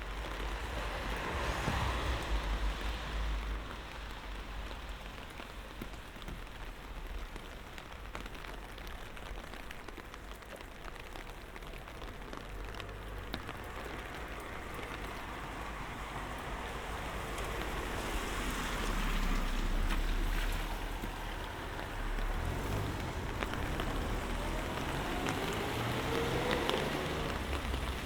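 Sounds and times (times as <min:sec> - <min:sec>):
light rain on hard surfaces: 0:00.0 - 0:28.0.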